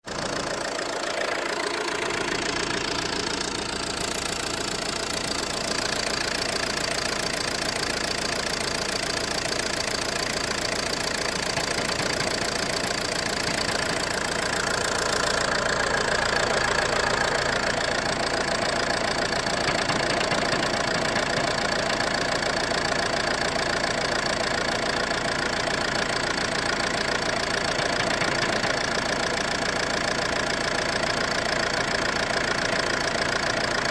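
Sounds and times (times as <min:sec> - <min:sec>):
car engine idling: 0:00.0 - 0:33.9
engine knocking: 0:00.0 - 0:33.9.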